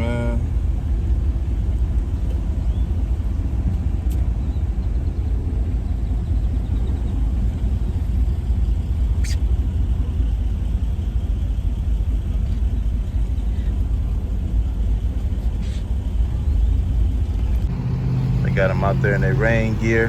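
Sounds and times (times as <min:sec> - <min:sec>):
truck idling: 0:00.0 - 0:20.0.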